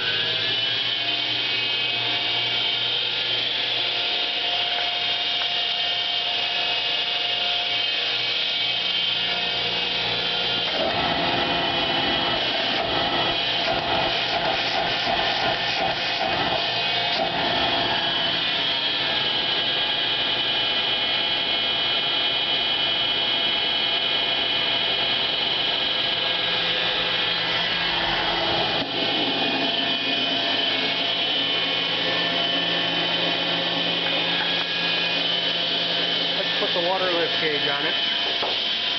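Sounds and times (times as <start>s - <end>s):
vacuum motor whirring hum: 0.0s - 38.9s.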